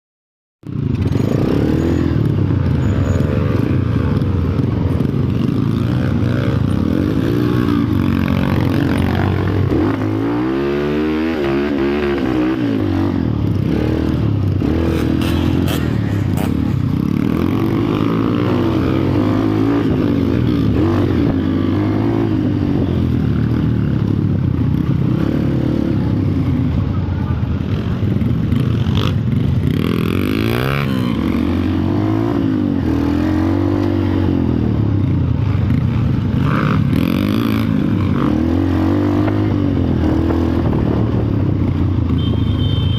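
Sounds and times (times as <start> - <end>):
vehicle engines revving and passing: 0.6 - 42.9.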